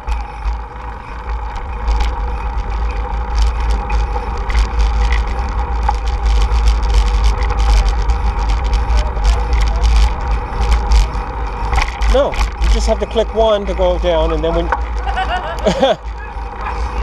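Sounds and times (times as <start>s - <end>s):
bicycle tyre noise: 0.0s - 17.0s
small rattling clicks: 0.0s - 17.0s
wind buffeting microphone: 0.0s - 17.0s.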